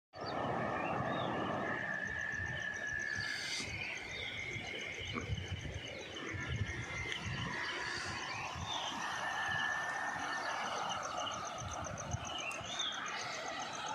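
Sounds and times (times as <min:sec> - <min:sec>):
low rumbling noise: 0:00.2 - 0:13.0
birds chirping: 0:00.2 - 0:13.9
insects trilling: 0:00.2 - 0:13.9.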